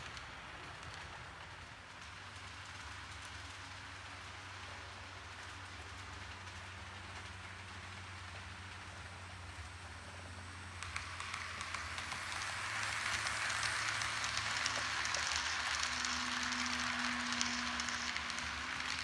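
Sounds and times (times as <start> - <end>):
model train wheels rattling on track: 0.0 - 19.0.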